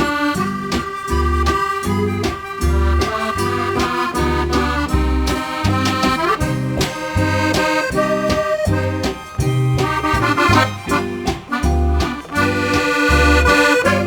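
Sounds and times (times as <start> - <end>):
accordion melody: 0.0 - 14.0.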